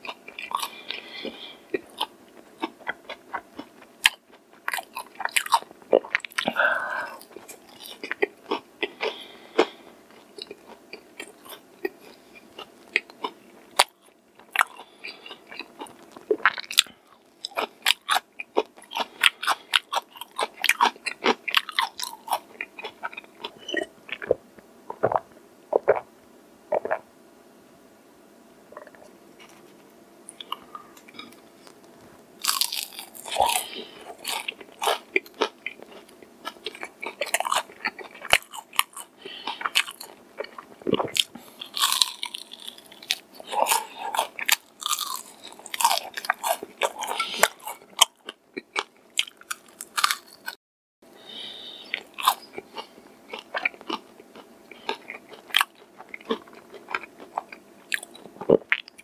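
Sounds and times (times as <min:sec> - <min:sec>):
crunching fried chicken: 0:00.0 - 0:24.3, 0:30.3 - 0:50.6, 0:51.9 - 0:59.0.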